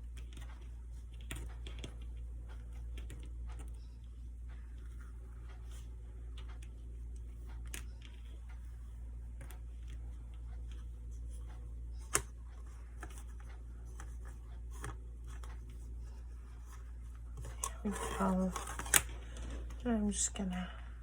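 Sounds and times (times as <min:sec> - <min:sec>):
clicks and rustles of craft materials: 0:00.0 - 0:20.4
steady low hum: 0:00.0 - 0:21.0.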